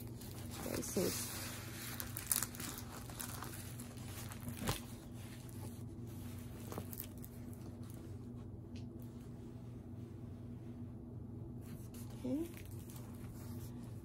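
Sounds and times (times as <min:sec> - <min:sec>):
canvas and paper rustling: 0:00.0 - 0:09.1, 0:11.6 - 0:14.0
low steady hum: 0:00.0 - 0:14.0.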